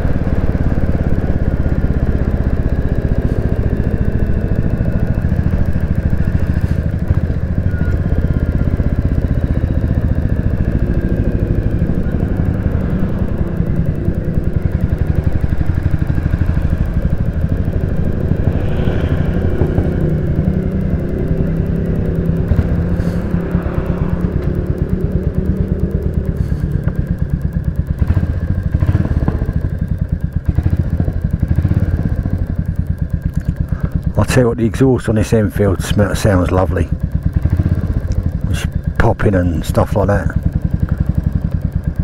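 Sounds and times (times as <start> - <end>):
exhaust popping: 0.0 - 42.0
motorcycle engine running: 0.0 - 42.0.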